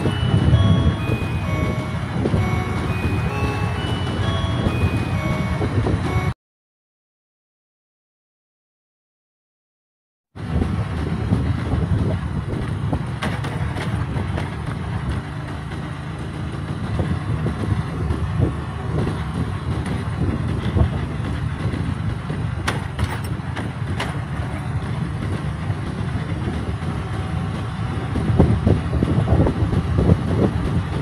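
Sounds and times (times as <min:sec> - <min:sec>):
motorcycle engine and road rumble: 0:00.0 - 0:06.3, 0:10.4 - 0:31.0
wind buffeting microphone: 0:00.0 - 0:06.3, 0:10.4 - 0:31.0.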